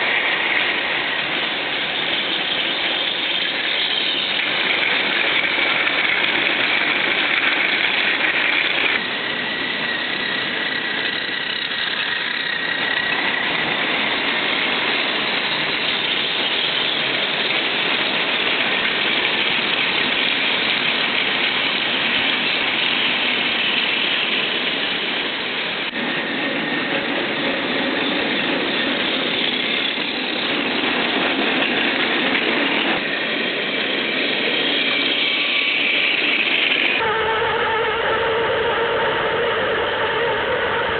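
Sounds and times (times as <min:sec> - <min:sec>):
toy train motors whirring: 0:00.0 - 0:26.1, 0:27.1 - 0:37.1.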